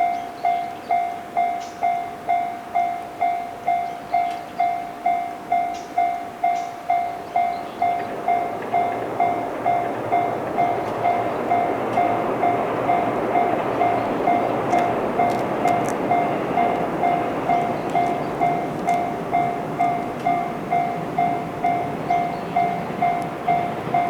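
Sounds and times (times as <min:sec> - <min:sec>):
approaching train rushing: 0:00.0 - 0:24.0
level crossing bell clanging: 0:01.0 - 0:24.0.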